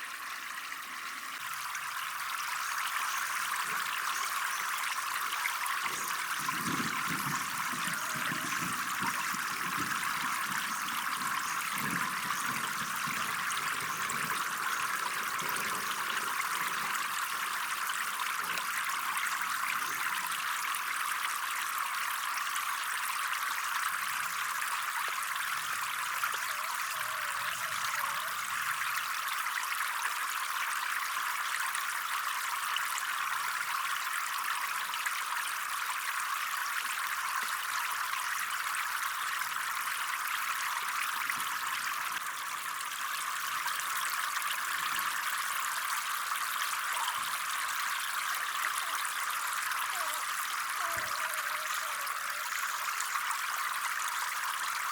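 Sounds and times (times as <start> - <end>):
water trickling: 0.0 - 54.9.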